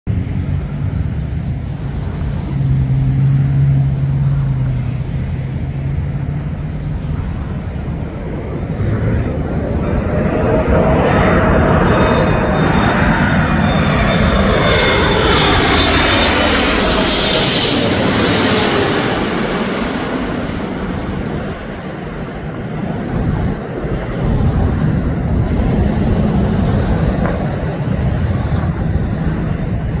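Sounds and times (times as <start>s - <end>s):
low engine drone: 0.1s - 30.0s.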